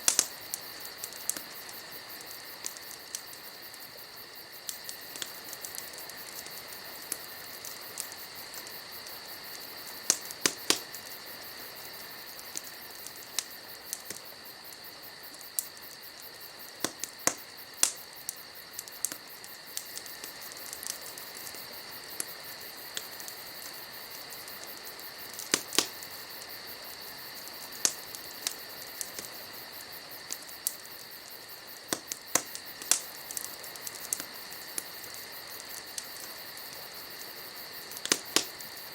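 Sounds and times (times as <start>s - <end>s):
crickets chirping: 0.0s - 38.9s
wood fire crackling and popping: 0.0s - 38.9s.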